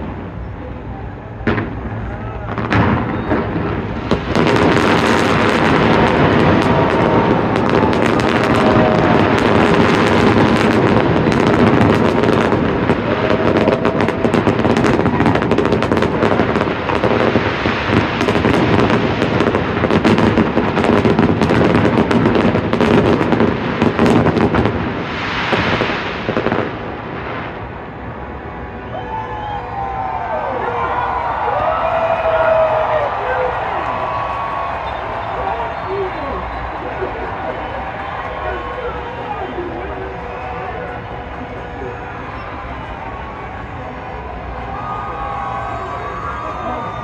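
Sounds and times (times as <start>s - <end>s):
fireworks bangs and crackles: 0.0s - 28.7s, 32.1s - 47.0s.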